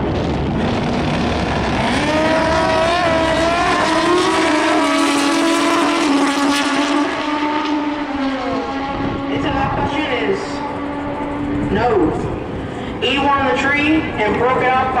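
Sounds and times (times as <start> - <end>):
motorcycles accelerating hard: 0.0 - 12.8.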